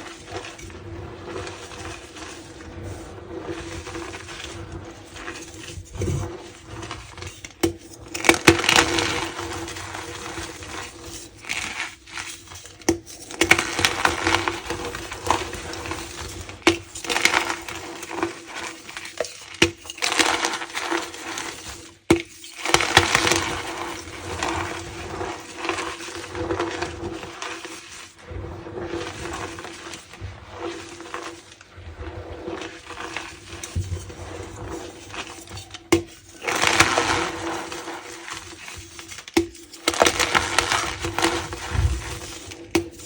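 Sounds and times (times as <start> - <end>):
chalk crunching and cracking: 0.0 - 43.0.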